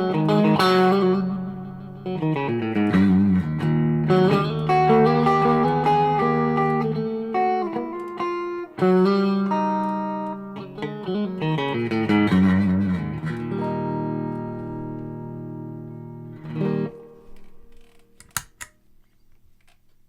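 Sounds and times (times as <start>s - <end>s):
overdriven electric guitar: 0.0s - 18.5s.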